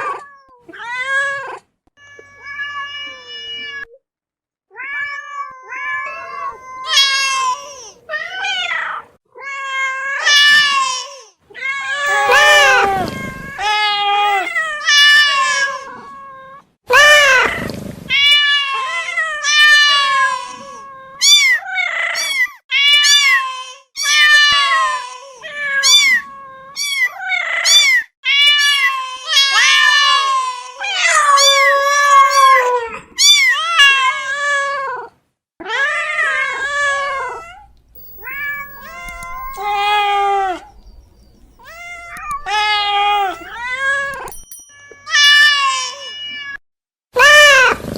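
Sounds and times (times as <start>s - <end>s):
cats meowing: 4.7s - 16.6s, 19.8s - 46.6s.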